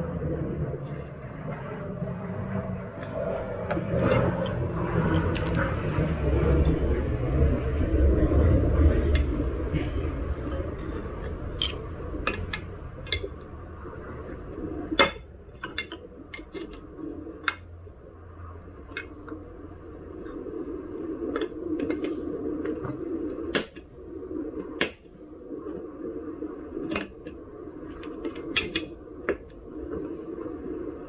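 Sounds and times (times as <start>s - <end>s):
low rumbling rubbing noise: 0.0s - 31.0s.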